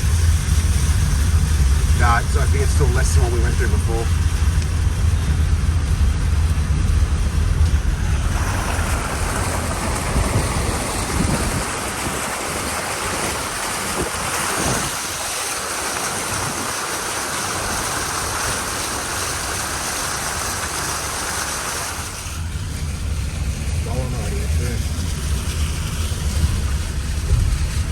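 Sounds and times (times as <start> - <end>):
engine humming: 0.0 - 27.9
water spraying against vehicle: 0.0 - 27.9.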